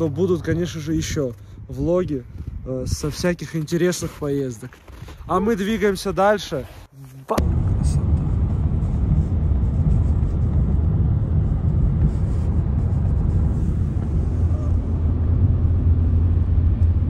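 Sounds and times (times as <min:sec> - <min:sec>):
car engine rumble: 0:00.0 - 0:06.2, 0:07.4 - 0:17.0
road noise: 0:00.0 - 0:17.0.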